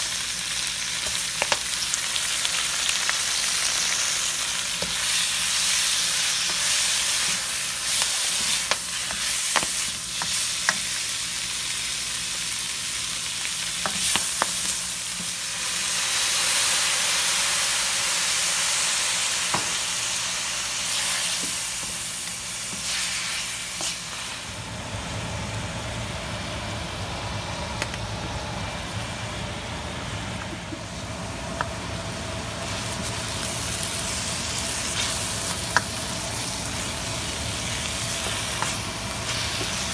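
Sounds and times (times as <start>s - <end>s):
food sizzling in a wok: 0.0s - 25.6s, 30.5s - 39.9s.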